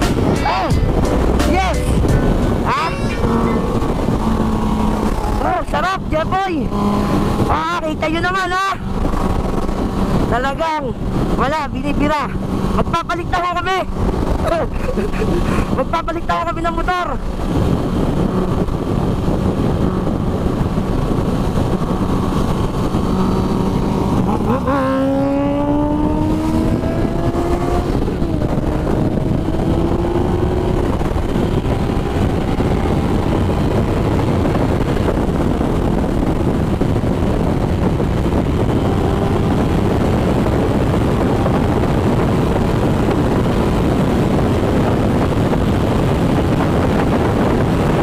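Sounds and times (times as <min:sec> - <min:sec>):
motorcycle engine accelerating: 0:00.0 - 0:08.2, 0:08.8 - 0:11.4, 0:12.2 - 0:13.0, 0:13.9 - 0:15.6, 0:17.2 - 0:48.0
wind noise on microphone: 0:00.0 - 0:48.0.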